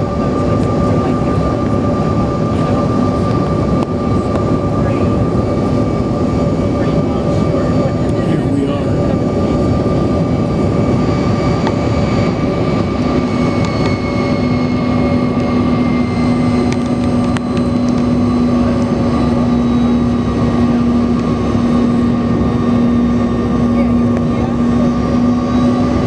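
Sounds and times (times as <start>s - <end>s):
airliner cabin engine roar: 0.0s - 26.0s.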